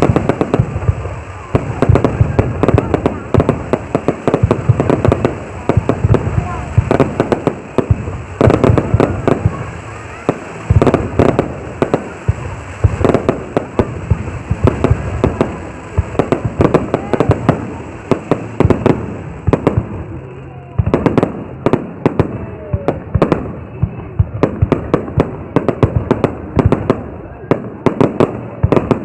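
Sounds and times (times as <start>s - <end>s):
fireworks bursting in sharp bangs: 0.0s - 29.0s.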